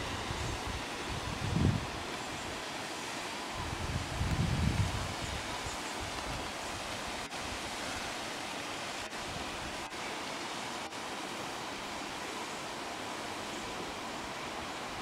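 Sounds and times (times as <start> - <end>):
waterfall rushing hiss: 0.0 - 15.0.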